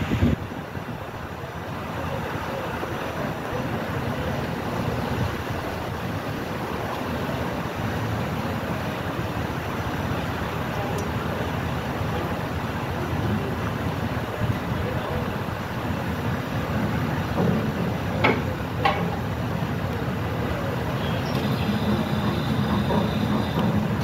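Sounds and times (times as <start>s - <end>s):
ship machinery rumbling: 0.0s - 24.0s
water churning: 0.0s - 24.0s.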